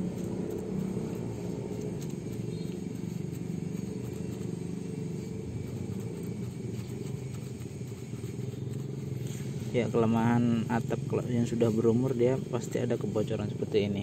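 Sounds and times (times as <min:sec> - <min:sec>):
paintbrush dabbing: 0:00.0 - 0:14.0
steady low rumble: 0:00.0 - 0:14.0.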